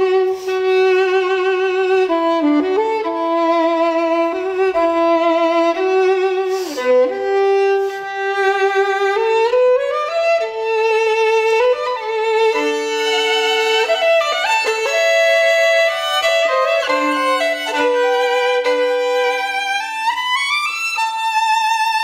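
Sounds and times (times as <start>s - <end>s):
solo violin slow melody: 0.0s - 22.0s.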